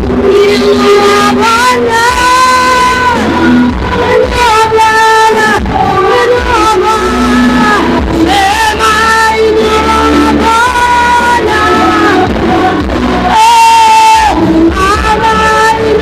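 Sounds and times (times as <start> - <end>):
worship song singing with band: 0.0 - 16.0.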